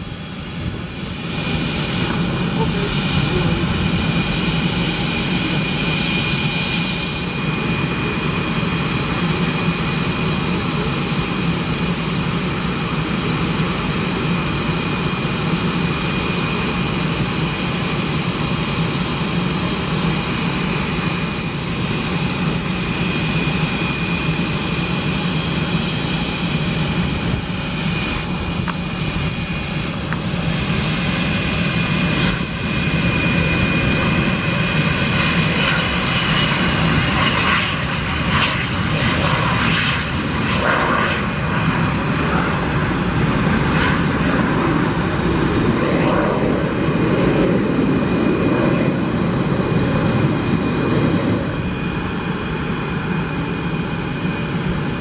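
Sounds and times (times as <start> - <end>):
jet engine roaring with high whine: 0.0 - 55.0.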